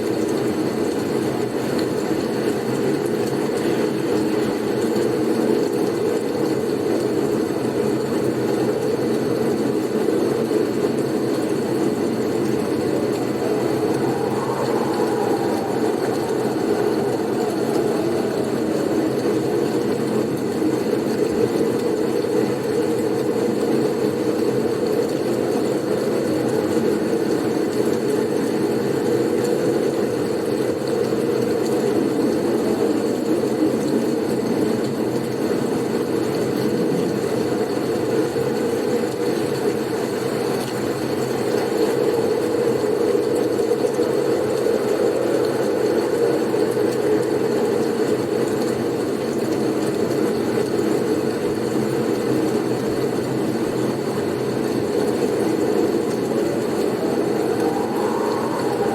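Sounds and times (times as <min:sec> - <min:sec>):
blizzard wind rushing: 0:09.6 - 0:51.1, 0:52.0 - 0:58.9.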